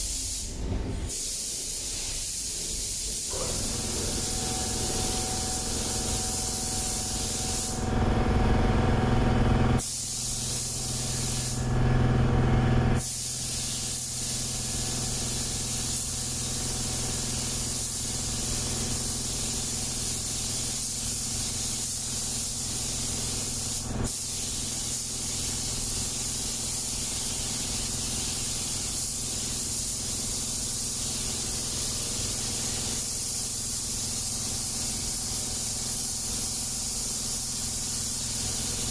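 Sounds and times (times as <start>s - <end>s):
paint spray gun hissing: 1.1s - 7.8s, 9.8s - 11.6s, 13.0s - 38.9s.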